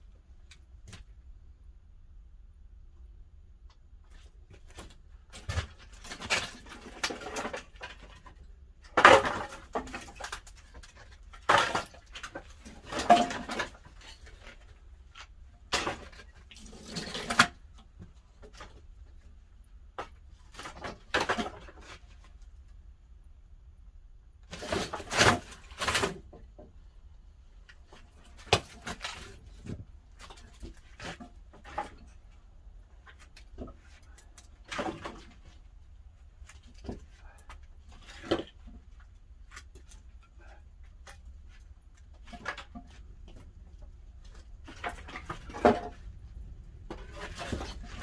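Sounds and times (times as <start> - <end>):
firewood clattering: 4.2 - 22.4, 27.6 - 48.0.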